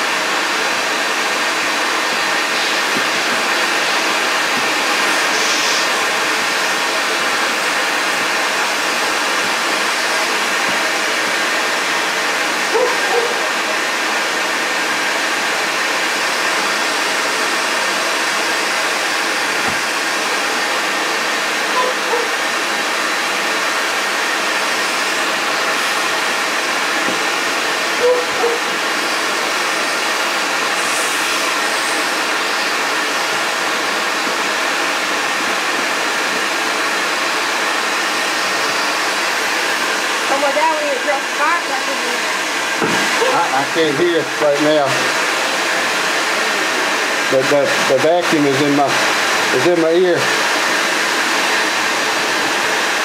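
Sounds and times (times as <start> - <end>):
vacuum motor running: 0.0 - 53.0.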